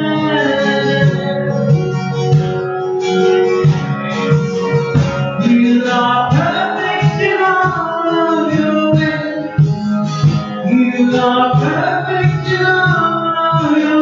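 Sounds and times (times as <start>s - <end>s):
person singing live: 0.0s - 14.0s
strummed acoustic guitar: 0.0s - 14.0s.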